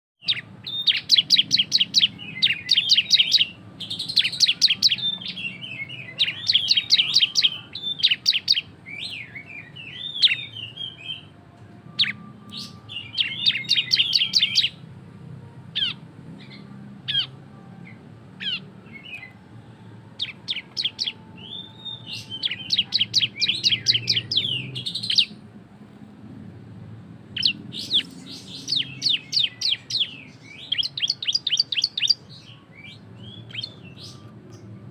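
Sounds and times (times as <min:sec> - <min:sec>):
bird singing sharp chips and trills: 0:00.2 - 0:11.3, 0:11.9 - 0:14.8, 0:15.8 - 0:19.4, 0:20.2 - 0:25.4, 0:27.3 - 0:34.9.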